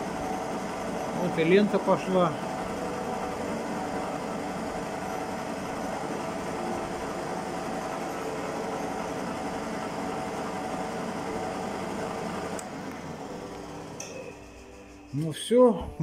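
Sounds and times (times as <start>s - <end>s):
drum sander humming: 0.0s - 16.0s.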